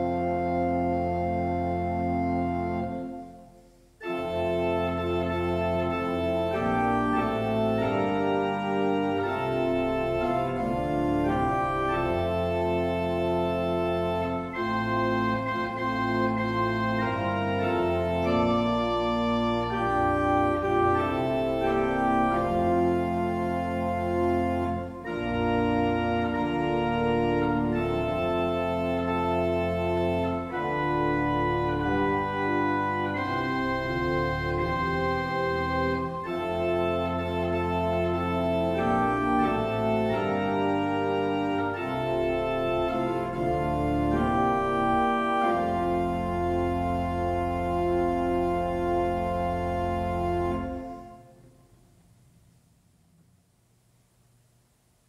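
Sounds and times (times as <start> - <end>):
pipe organ playing a hymn: 0.0 - 51.6.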